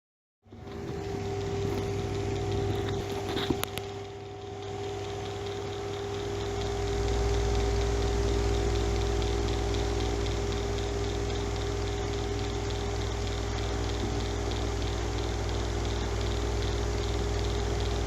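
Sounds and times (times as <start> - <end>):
exhaust fan humming: 0.5 - 18.0
sharp clicks: 0.6 - 18.0.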